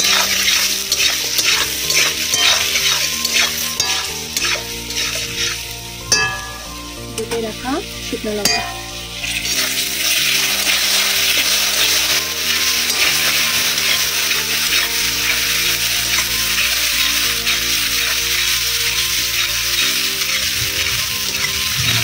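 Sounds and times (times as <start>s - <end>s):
metal spatula scraping a pan: 0.0s - 22.0s
potatoes sizzling in hot oil: 0.0s - 22.0s.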